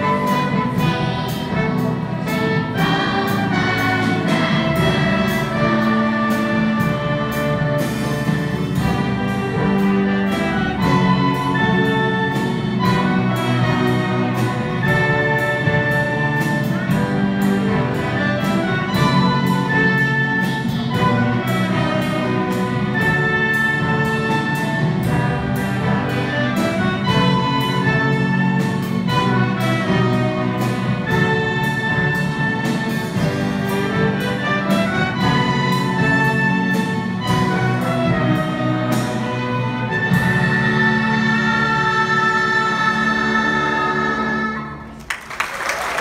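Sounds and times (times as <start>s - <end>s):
orchestra playing with drum kit: 0.0s - 46.0s.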